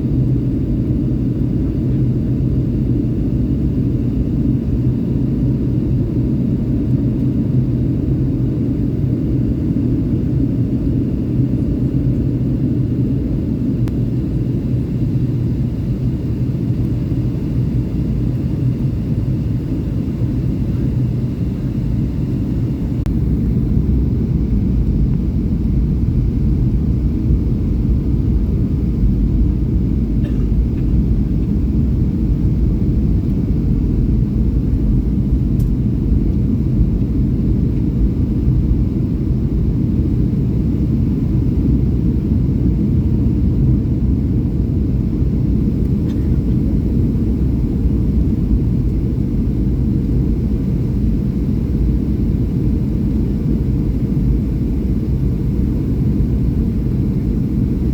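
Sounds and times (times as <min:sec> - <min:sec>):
airplane cabin rumble: 0:00.0 - 0:57.9.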